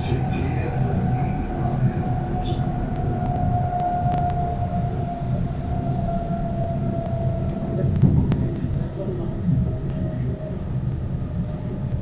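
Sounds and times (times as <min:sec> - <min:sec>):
steady high whine: 0:00.0 - 0:12.0
train running rumble: 0:00.0 - 0:12.0.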